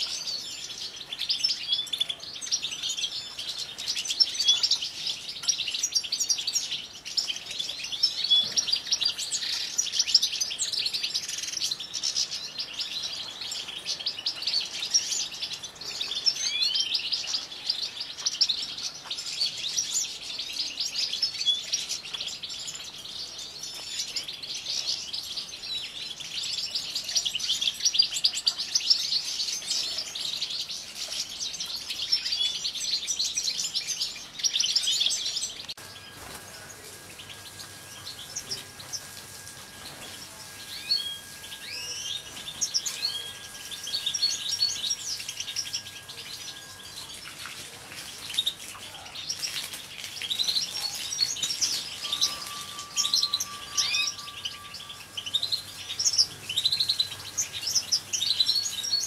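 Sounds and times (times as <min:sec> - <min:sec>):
finches chirping and twittering: 0:00.0 - 0:59.0.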